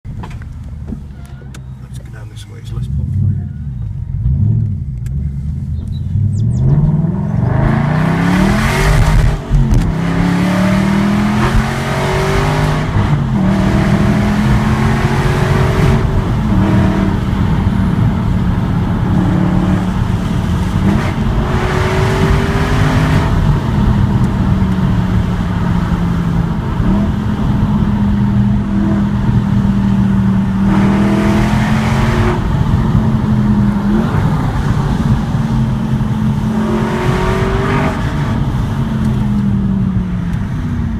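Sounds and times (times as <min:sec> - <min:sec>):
car engine accelerating: 0:00.1 - 0:40.9.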